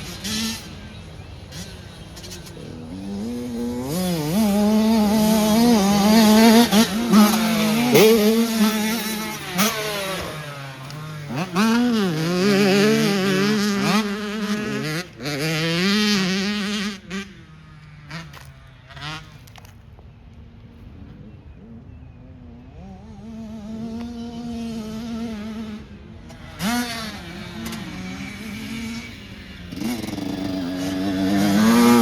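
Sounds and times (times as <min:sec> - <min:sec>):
race car engine revving: 0:00.0 - 0:17.4, 0:22.6 - 0:32.0.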